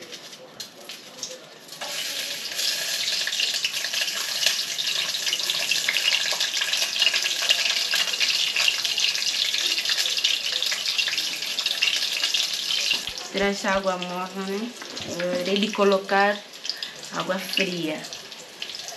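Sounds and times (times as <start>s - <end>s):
food sizzling in hot oil: 0.0s - 18.9s.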